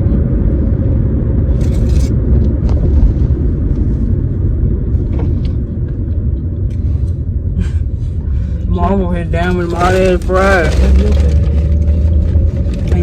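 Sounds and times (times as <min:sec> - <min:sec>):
car interior rumble: 0:00.0 - 0:13.0.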